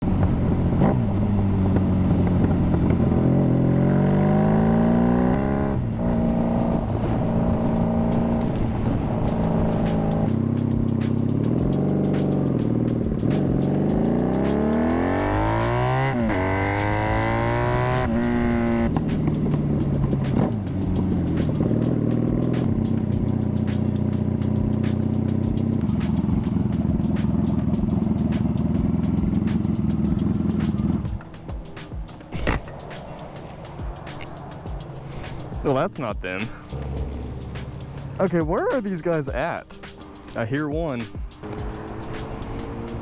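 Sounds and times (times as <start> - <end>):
motorcycle engine shifting gears: 0.0 - 43.0.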